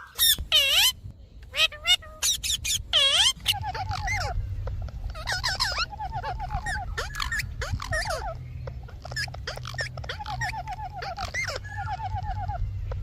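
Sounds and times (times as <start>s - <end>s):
lovebirds chirping and chattering: 0.0s - 13.0s.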